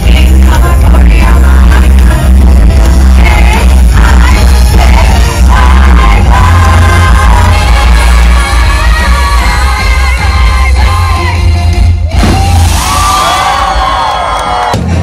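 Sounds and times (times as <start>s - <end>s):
stage music with singing: 0.0s - 15.0s.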